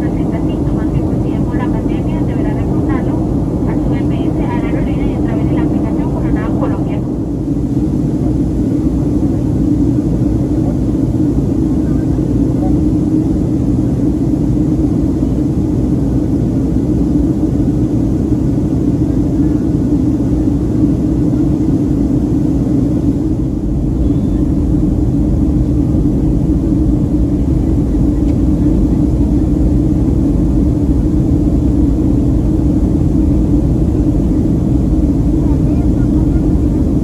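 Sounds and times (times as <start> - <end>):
air rushing along fuselage: 0.0 - 37.0
jet engines droning: 0.0 - 37.0.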